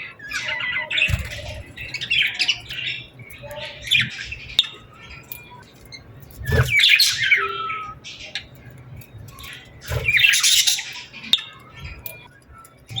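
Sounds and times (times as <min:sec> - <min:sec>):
faint bird chirps: 0:00.0 - 0:13.0
harsh bird calls: 0:00.0 - 0:13.0.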